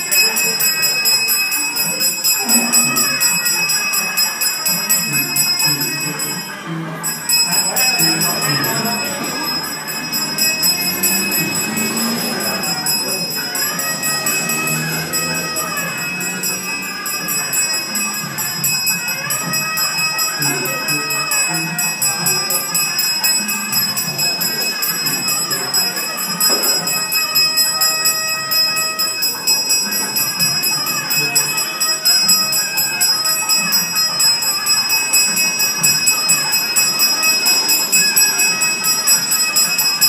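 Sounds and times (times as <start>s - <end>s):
hand bell ringing: 0.0s - 40.0s
voices chanting: 0.0s - 40.0s.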